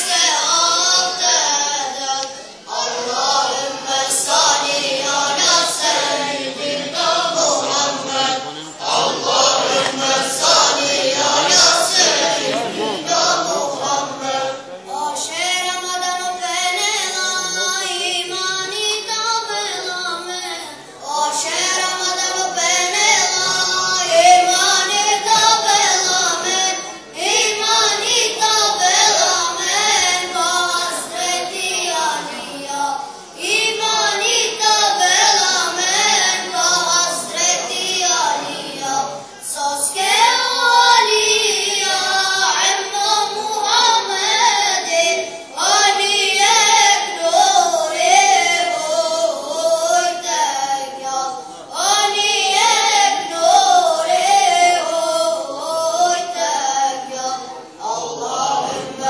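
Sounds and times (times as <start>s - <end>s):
group singing religious chants: 0.0s - 15.3s, 21.2s - 59.0s.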